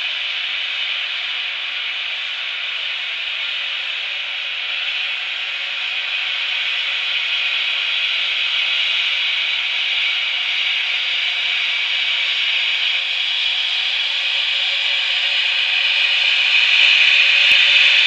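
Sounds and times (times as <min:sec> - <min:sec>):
steam hissing: 0:00.0 - 0:18.0.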